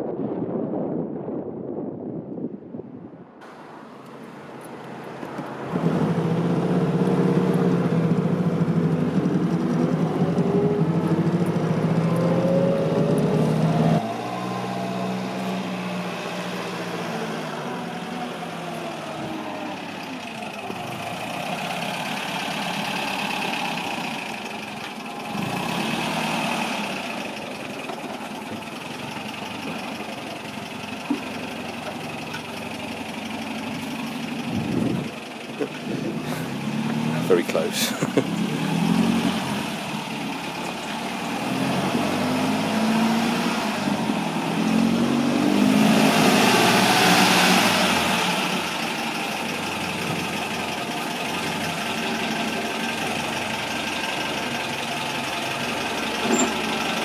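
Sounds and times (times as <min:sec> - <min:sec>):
car engine running: 0:03.5 - 0:57.0.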